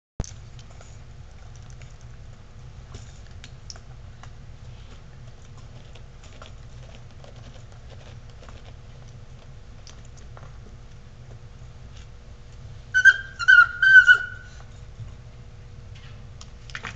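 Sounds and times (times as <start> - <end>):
steady low hum: 0.2 - 16.9.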